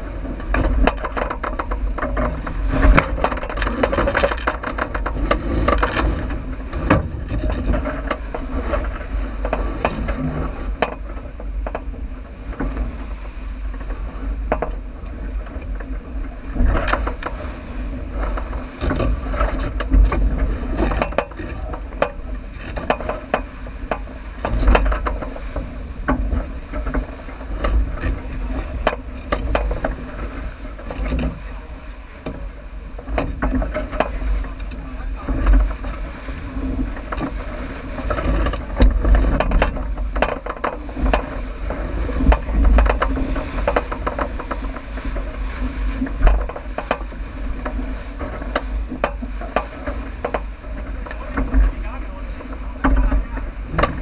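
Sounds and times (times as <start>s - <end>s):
wind and water rumble: 0.0s - 54.0s
knocks and clicks: 0.4s - 12.9s, 18.2s - 31.4s, 32.2s - 54.0s.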